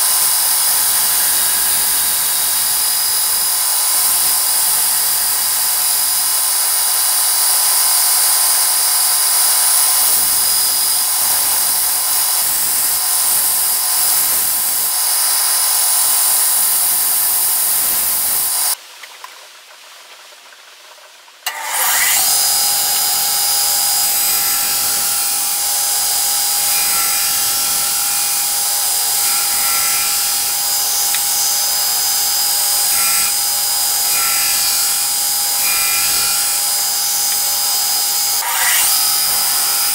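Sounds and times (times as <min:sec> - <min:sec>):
belt grinder whining: 0:00.0 - 0:18.8, 0:21.5 - 0:39.9.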